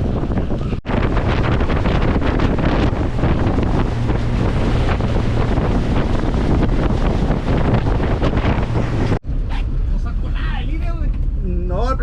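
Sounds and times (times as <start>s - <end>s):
water rushing: 0.0s - 10.8s
boat engine low rumble: 0.0s - 12.0s
wind buffeting microphone: 0.0s - 12.0s.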